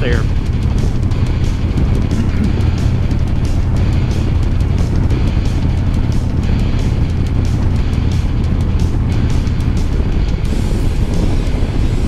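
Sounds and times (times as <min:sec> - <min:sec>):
motorcycle engine running: 0:00.0 - 0:12.0
rock music: 0:00.0 - 0:12.0
wind noise: 0:00.0 - 0:12.0.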